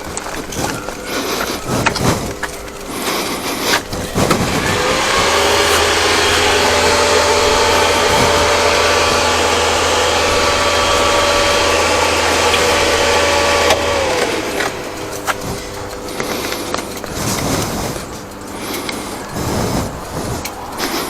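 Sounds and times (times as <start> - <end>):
scooter motor whining: 0.0 - 21.0
wind noise: 0.0 - 21.0.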